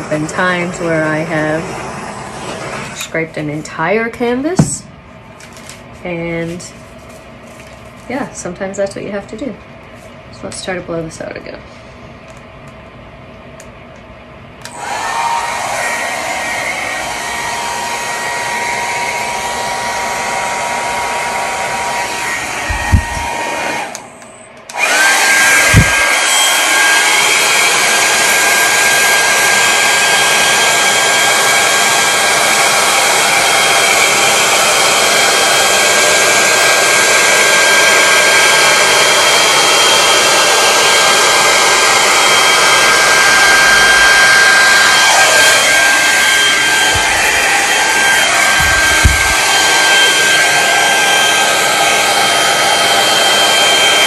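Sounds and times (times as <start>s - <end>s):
blow dryer blowing: 0.0s - 5.0s, 14.6s - 54.0s.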